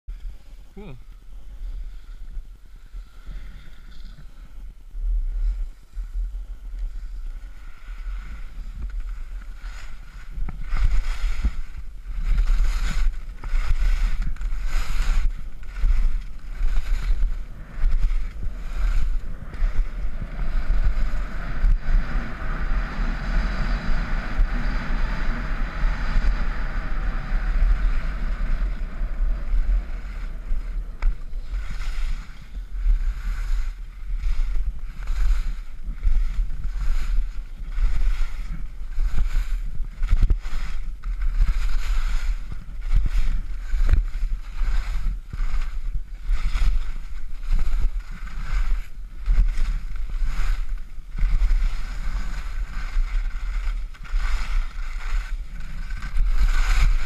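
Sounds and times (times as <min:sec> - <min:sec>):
skis scraping over snow: 0:00.1 - 0:57.0
wind buffeting microphone: 0:01.5 - 0:57.0.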